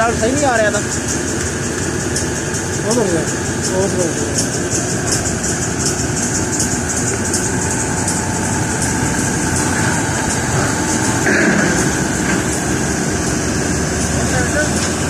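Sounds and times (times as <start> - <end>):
faint rhythmic high clatter: 0.0 - 15.0
heavy machinery engine running: 0.0 - 15.0.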